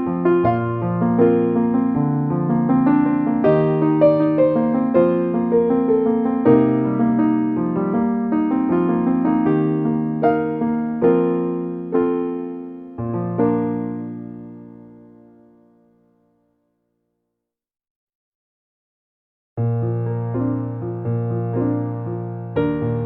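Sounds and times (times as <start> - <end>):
slow solo piano music: 0.0 - 16.4, 19.6 - 23.0.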